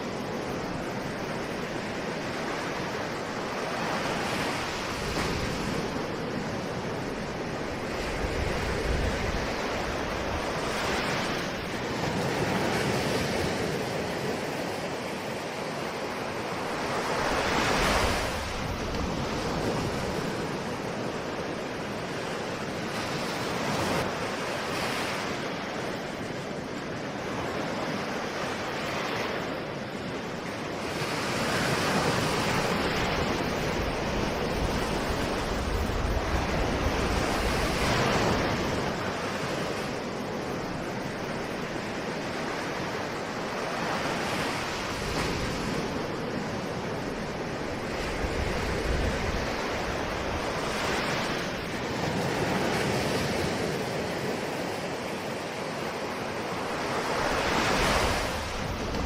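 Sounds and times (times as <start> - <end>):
waves breaking on shore: 0.0 - 59.0
wind on microphone: 0.0 - 59.0.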